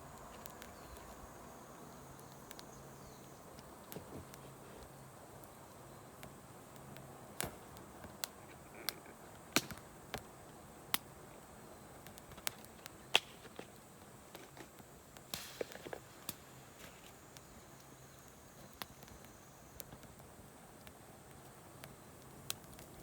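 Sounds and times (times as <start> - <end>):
campfire crackling and popping: 0.0 - 23.0
soft fire hiss: 0.0 - 23.0.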